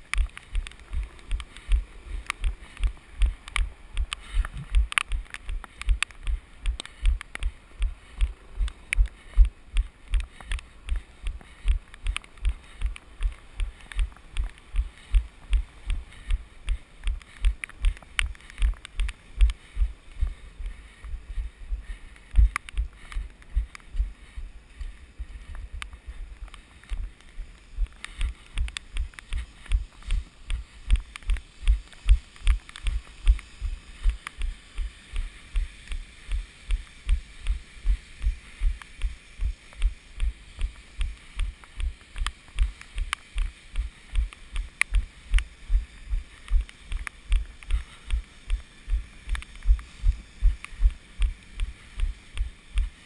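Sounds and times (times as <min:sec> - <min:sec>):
running footsteps: 0:00.0 - 0:53.0.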